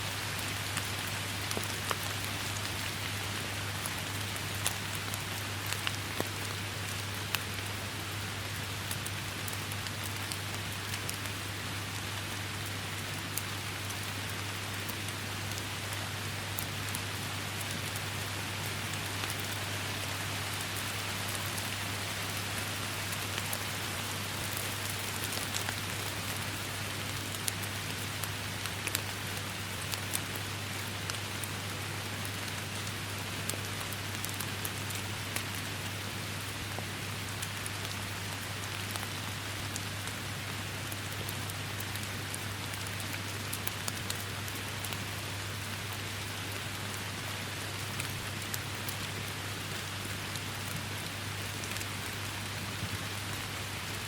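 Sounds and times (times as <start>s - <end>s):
heavy rain falling: 0.0s - 54.0s
raindrops ticking on surfaces: 0.0s - 54.0s.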